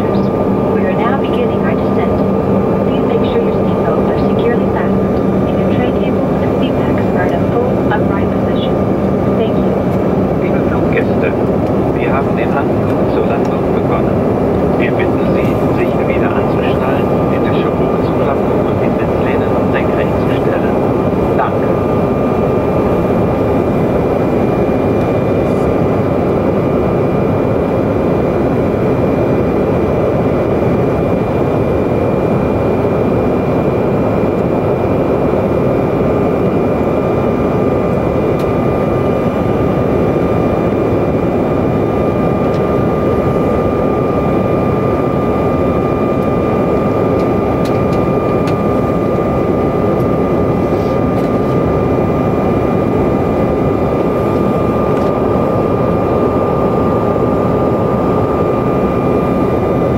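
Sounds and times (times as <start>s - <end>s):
jet cabin airflow and engines: 0.0s - 59.9s.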